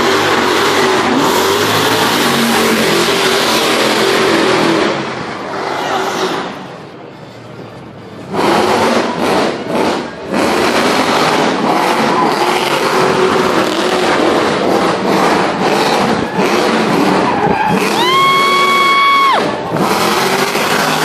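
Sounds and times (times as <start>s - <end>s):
racing car engines at full throttle: 0.0s - 21.0s.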